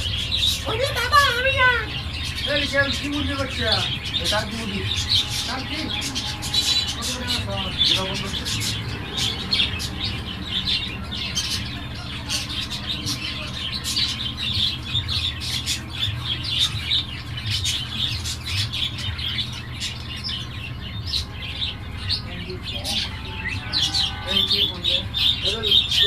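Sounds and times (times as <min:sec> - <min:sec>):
many birds chirping and squawking: 0:00.0 - 0:26.0
steady low hum: 0:00.0 - 0:26.0.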